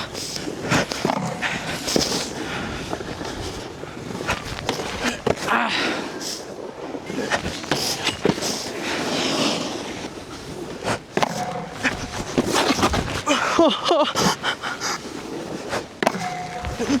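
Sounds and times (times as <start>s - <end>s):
snowboard scraping over snow: 0.0s - 17.0s.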